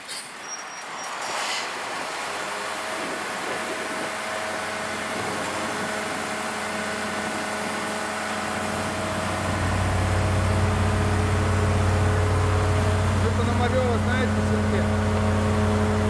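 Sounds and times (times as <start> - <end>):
engine running with low rumble: 1.9 - 16.0.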